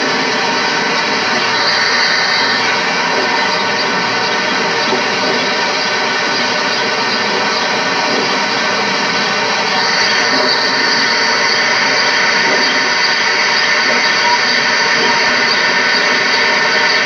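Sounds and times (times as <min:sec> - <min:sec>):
mechanical drone and hiss: 0:00.0 - 0:17.0.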